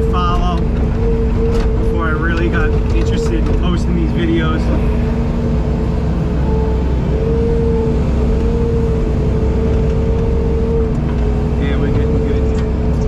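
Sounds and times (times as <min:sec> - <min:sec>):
diesel engine running: 0:00.0 - 0:13.0
wavering engine whine: 0:00.0 - 0:13.0.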